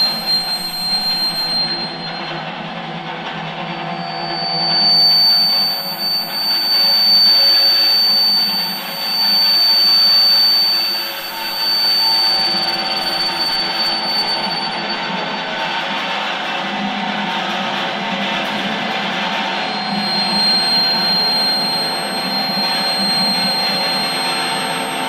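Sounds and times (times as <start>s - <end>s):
piercing high steady tone: 0.0s - 15.8s, 18.5s - 25.0s
electric guitar noise drone: 0.0s - 15.9s, 18.3s - 25.0s.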